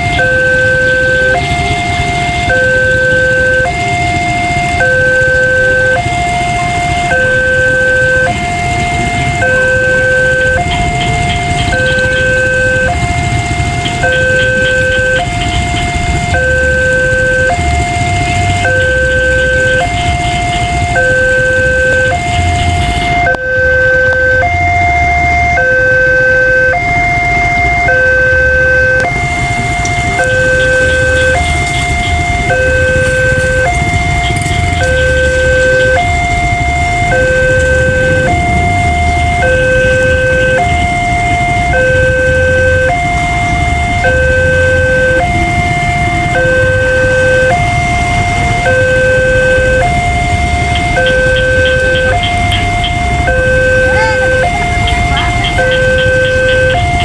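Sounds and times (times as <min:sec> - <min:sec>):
level-crossing two-tone alarm: 0:00.0 - 0:57.0.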